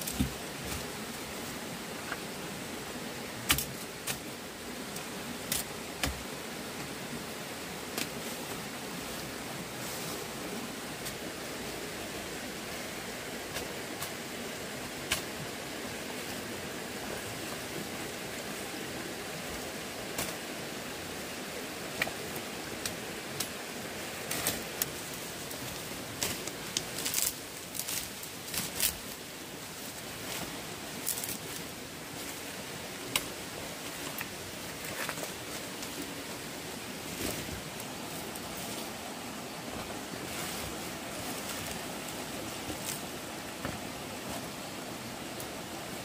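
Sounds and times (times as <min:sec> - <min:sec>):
flowing stream: 0:00.0 - 0:46.0.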